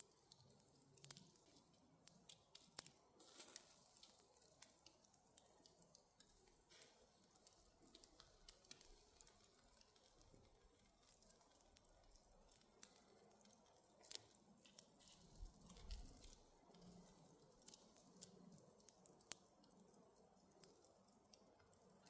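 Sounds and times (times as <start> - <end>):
faint clicks and crackles: 0.0 - 22.0.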